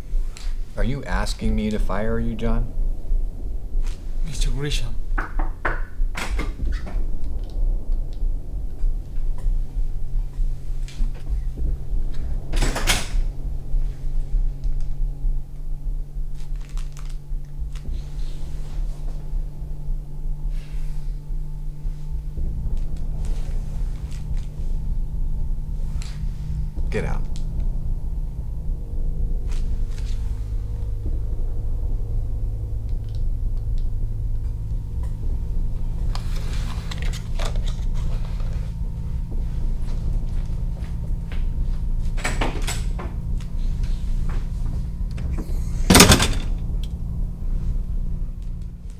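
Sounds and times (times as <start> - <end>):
low hum: 0.0 - 48.9.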